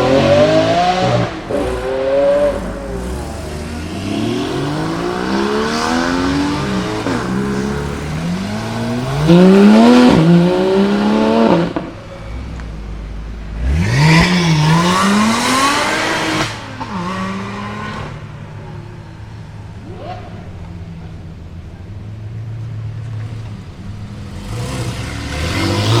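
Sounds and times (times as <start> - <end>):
car engines accelerating hard: 0.0 - 26.0.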